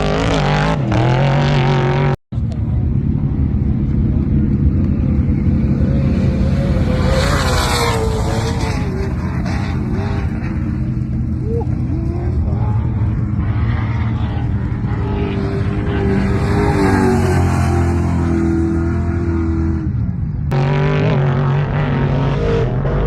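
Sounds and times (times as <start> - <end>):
engine revving: 0.0 - 2.2, 4.4 - 23.0
rush of noise: 0.0 - 23.0.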